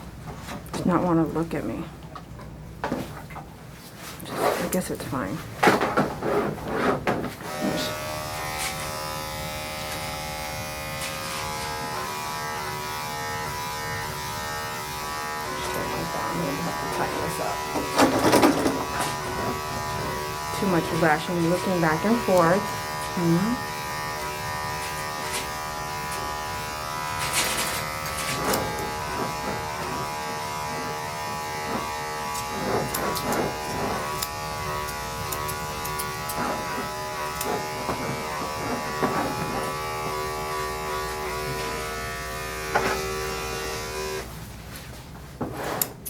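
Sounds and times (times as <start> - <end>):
electric clippers humming: 7.4 - 44.3.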